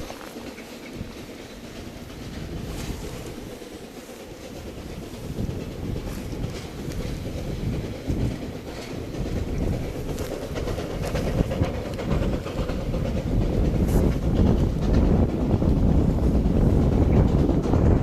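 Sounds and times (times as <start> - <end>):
train rumble: 0.0 - 18.0
wheels clattering on rail joints: 0.0 - 18.0.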